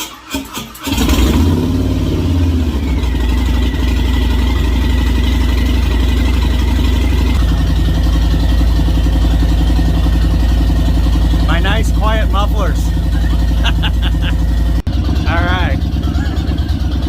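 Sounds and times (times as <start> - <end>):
car engine cranking: 0.0 - 17.0
car engine running loudly: 0.8 - 17.0.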